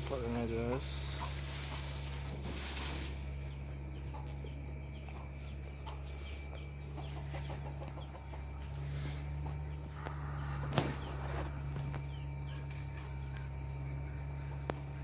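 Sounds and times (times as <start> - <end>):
chickens clucking: 0.0 - 15.0
low hum: 0.0 - 15.0.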